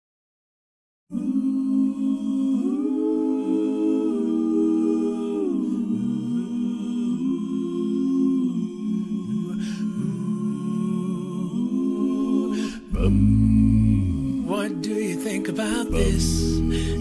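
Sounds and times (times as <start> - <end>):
voices humming chords: 1.2 - 17.0.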